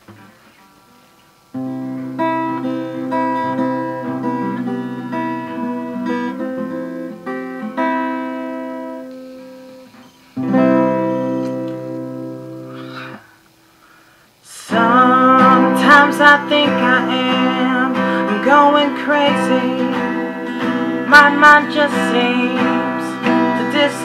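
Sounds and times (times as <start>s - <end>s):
acoustic guitar chords ringing: 1.5s - 13.8s, 14.7s - 24.0s.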